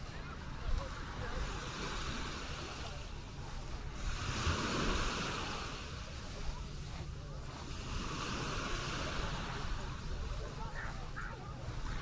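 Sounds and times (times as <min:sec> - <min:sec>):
small waves washing onto sand: 0:00.0 - 0:12.0.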